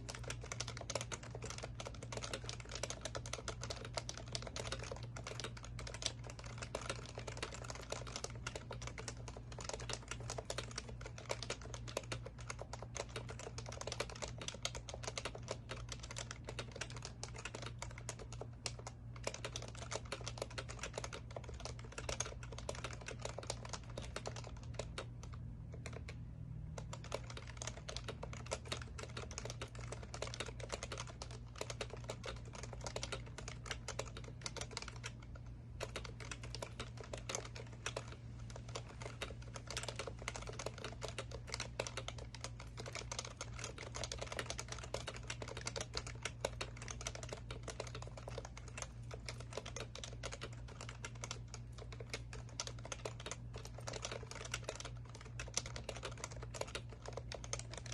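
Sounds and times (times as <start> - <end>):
fast keyboard typing: 0.0 - 57.9.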